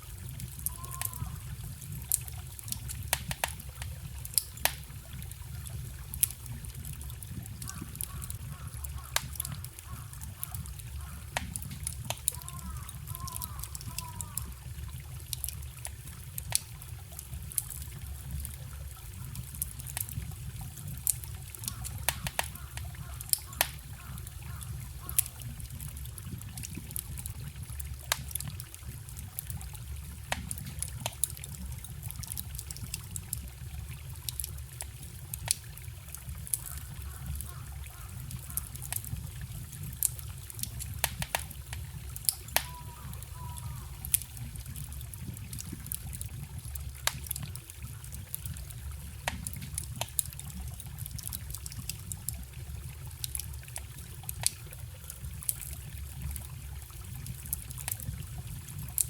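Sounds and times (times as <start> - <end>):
stream trickling: 0.0 - 59.0
wood fire crackling: 0.0 - 59.0.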